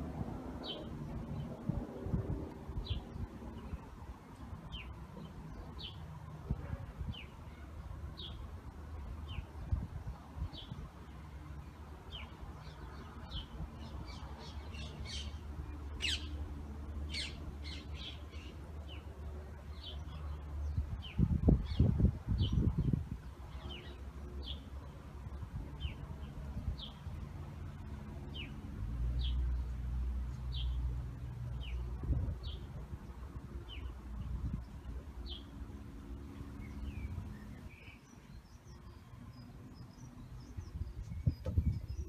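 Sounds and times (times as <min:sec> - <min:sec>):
small birds chirping: 0:00.6 - 0:42.0.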